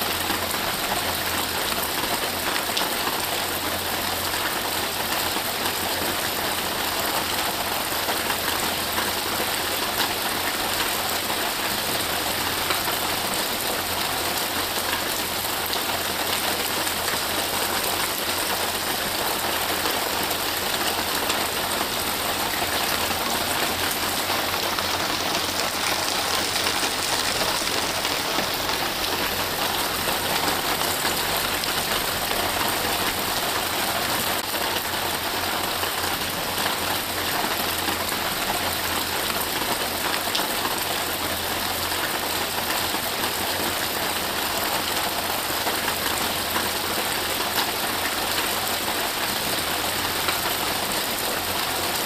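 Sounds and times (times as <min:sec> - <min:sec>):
rain falling on trees: 0:00.0 - 0:52.0.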